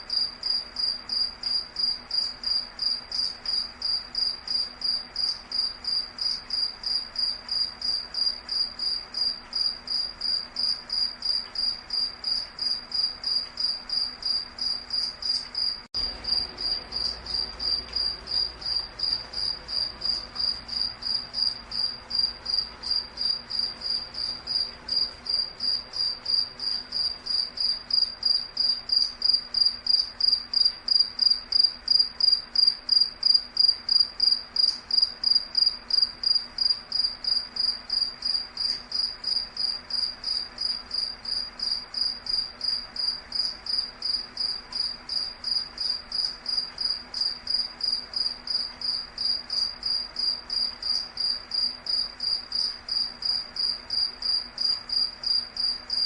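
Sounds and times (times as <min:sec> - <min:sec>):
insect chirping: 0:00.1 - 0:56.0.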